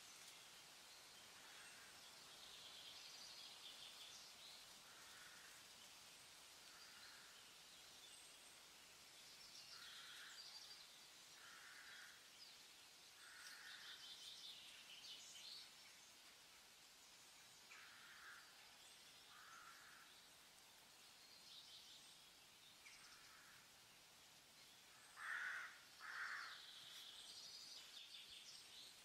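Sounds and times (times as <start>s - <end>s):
faint hiss: 0.0s - 29.0s.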